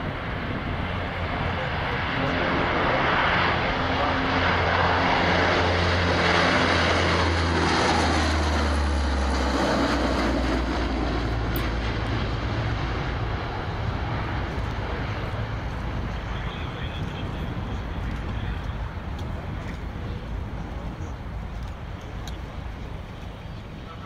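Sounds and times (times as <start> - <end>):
propeller aircraft drone: 0.0 - 24.0.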